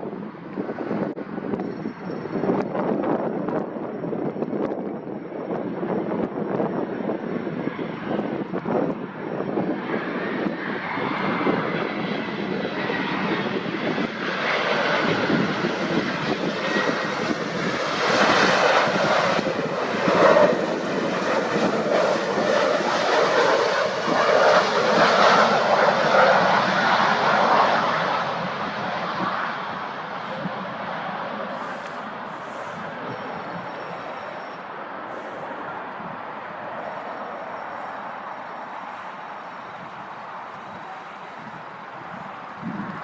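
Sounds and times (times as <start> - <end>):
jet airliner engines landing: 0.0 - 43.0.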